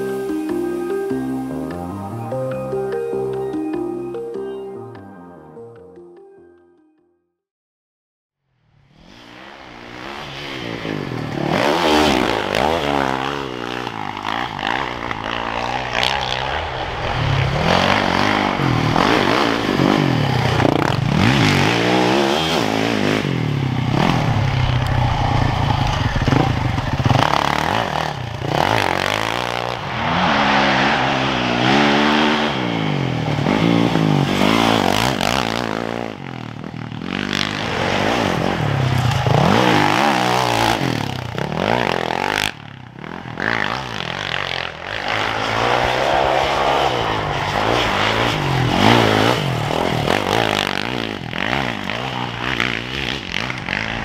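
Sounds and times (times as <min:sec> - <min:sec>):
dirt bike engine revving: 0:08.9 - 0:54.0.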